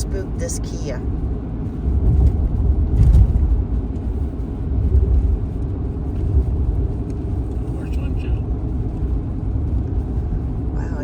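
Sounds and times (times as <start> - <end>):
tyre and engine rumble in car: 0.0 - 11.0.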